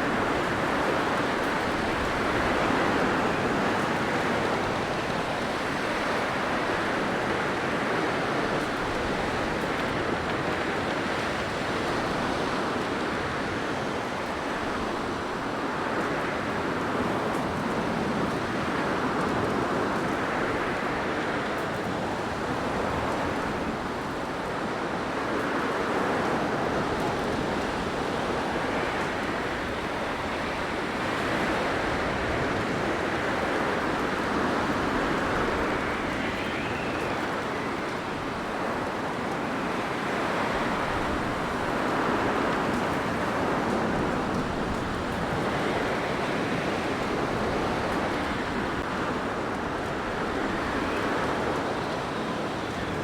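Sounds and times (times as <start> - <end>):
blizzard wind: 0.0 - 53.0.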